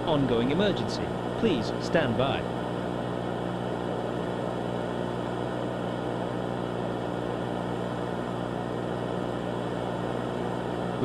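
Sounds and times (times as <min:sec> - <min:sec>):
droning hum with hiss: 0:00.0 - 0:11.0.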